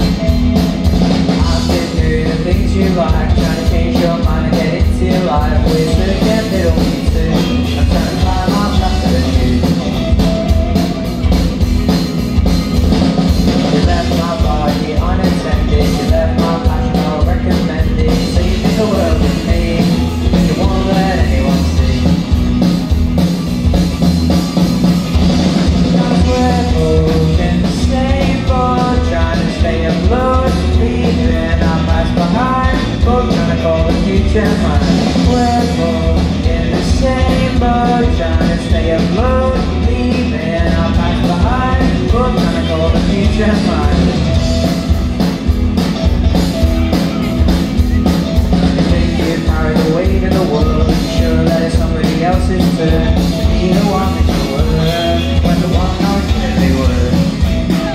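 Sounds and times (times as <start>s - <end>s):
bass guitar: 0.0s - 57.9s
drum kit: 0.0s - 57.9s
electric guitars: 0.0s - 57.9s
man singing: 1.0s - 10.7s, 13.5s - 22.6s, 25.4s - 44.8s, 46.6s - 57.9s.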